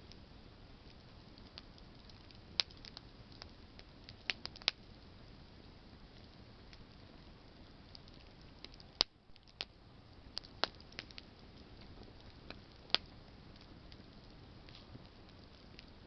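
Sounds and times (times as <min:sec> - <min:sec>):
campfire burning with crackles: 0:00.0 - 0:16.0.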